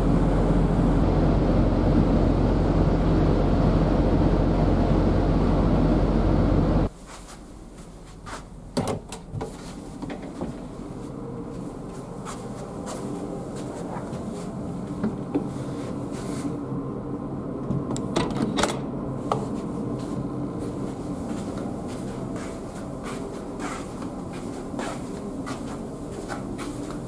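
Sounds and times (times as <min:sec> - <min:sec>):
low hum inside ferry: 0:00.0 - 0:27.0.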